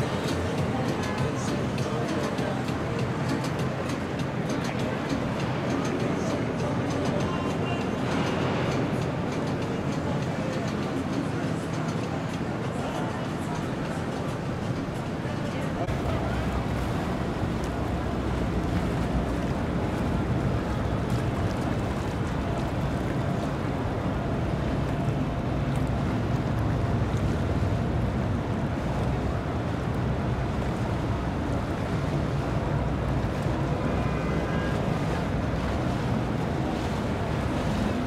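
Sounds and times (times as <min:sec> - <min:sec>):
boat engine drone: 0:00.0 - 0:38.0
water washing off hulls: 0:00.0 - 0:38.0.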